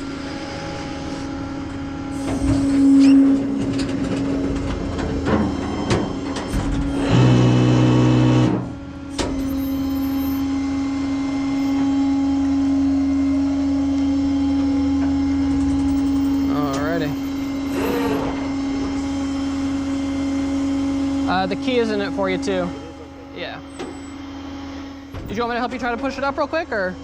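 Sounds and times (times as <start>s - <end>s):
loud droning tone: 0.0s - 27.0s
truck engine humming: 0.0s - 27.0s.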